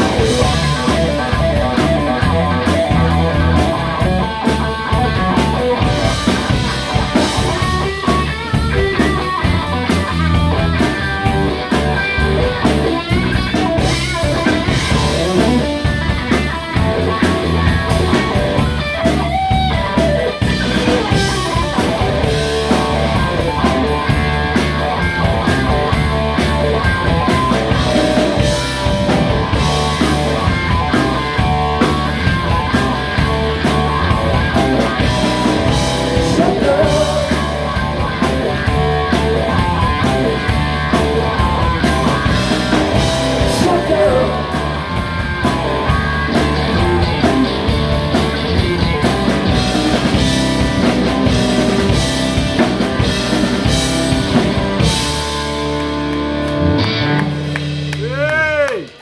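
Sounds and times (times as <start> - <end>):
live rock band playing: 0.0 - 59.0
steady drumbeat: 0.0 - 59.0.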